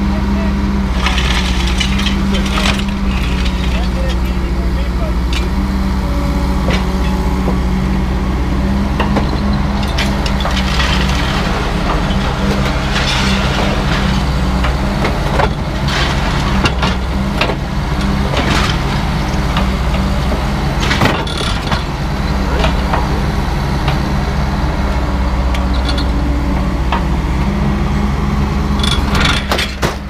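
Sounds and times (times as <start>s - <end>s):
heavy diesel machine running: 0.0s - 30.0s
scrap metal clanking and crunching: 0.8s - 30.0s.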